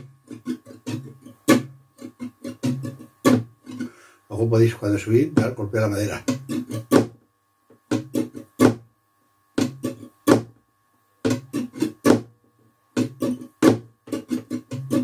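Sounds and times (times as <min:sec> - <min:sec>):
flamenco guitar strumming: 0:00.0 - 0:09.0, 0:09.6 - 0:10.6, 0:11.2 - 0:15.0.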